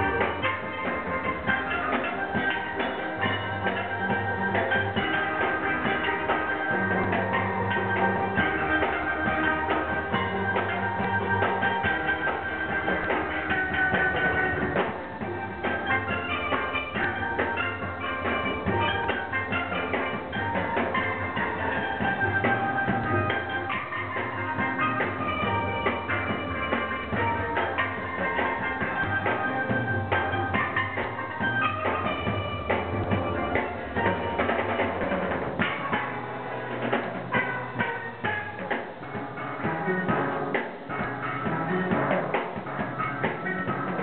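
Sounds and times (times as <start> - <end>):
drums and percussion: 0.0 - 44.0
steel pans ringing notes: 0.0 - 44.0.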